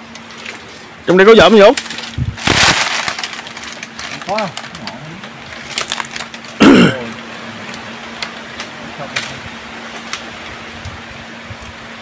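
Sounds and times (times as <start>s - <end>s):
dry palm fronds crackling: 0.0s - 12.0s.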